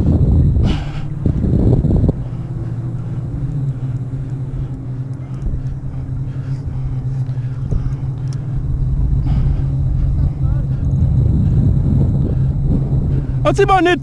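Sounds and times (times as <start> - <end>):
engine hum with low rumble: 0.0 - 14.0.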